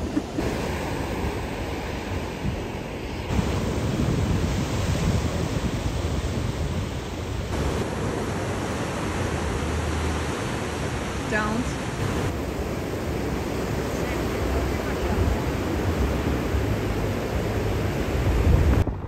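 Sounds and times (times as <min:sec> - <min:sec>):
wind buffeting microphone: 0:00.0 - 0:11.2, 0:12.0 - 0:19.0
sea surf breaking on beach: 0:00.0 - 0:19.0.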